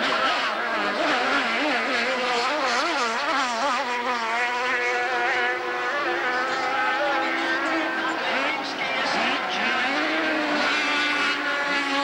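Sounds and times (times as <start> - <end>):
powerboat engine at high revs: 0.0 - 12.0.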